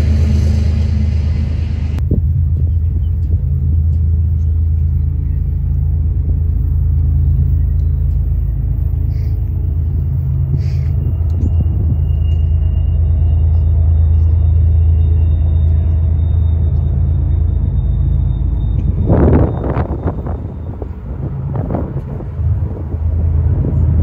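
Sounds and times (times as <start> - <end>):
locomotive engine rumble: 0.0 - 24.0
faint high whine: 3.6 - 24.0.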